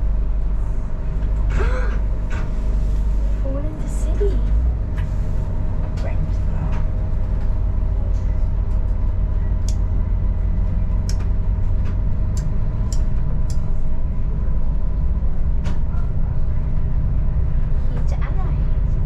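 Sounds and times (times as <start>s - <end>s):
railcar rumble: 0.0s - 19.0s.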